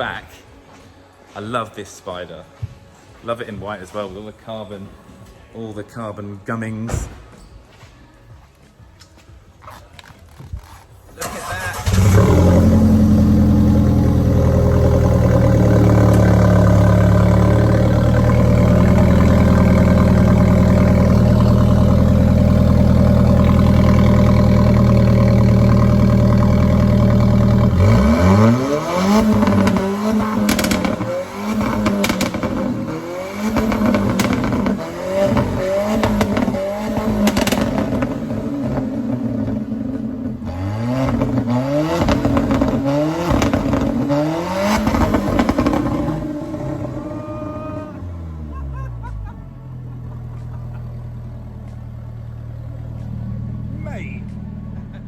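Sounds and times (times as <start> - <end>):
car engine idling and revving: 9.6 - 55.0
exhaust cracks: 9.6 - 55.0.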